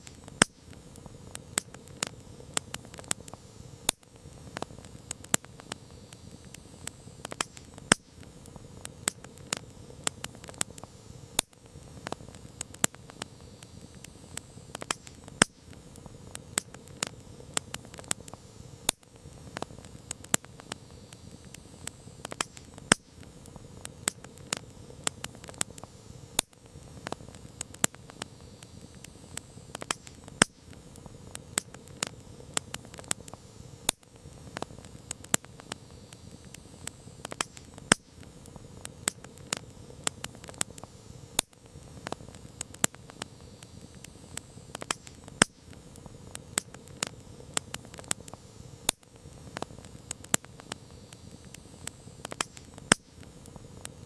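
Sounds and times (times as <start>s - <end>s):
campfire crackling: 0.0s - 54.0s
rush of burning flames: 0.0s - 54.0s.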